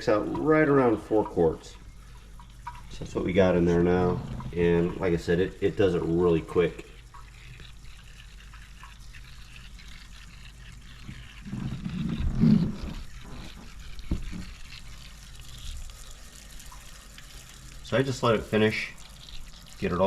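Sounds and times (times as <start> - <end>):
oil extractor hissing: 0.0 - 20.0
oil gurgling through tube: 0.0 - 20.0.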